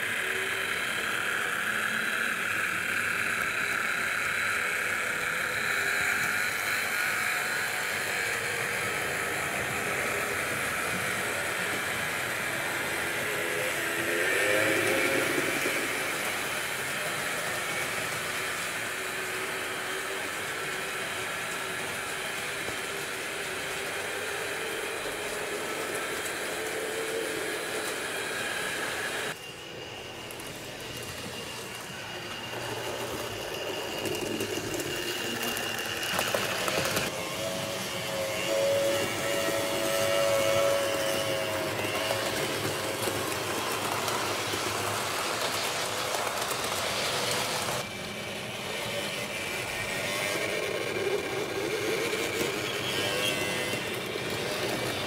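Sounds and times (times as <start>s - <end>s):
faint motor whine: 0.0s - 55.0s
model trains rolling: 0.0s - 55.0s.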